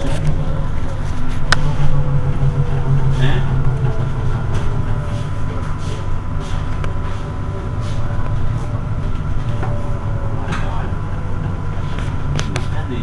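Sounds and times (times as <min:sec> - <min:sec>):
electric bus low hum: 0:00.0 - 0:13.0
thin high tone: 0:00.0 - 0:13.0.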